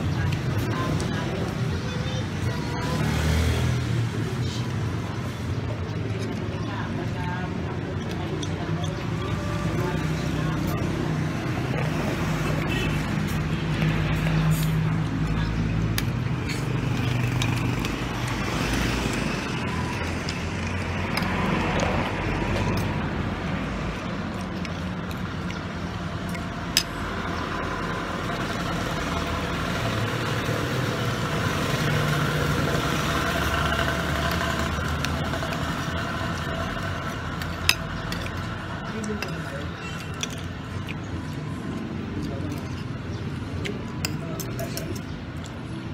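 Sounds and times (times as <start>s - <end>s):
street traffic passing: 0.0s - 45.9s.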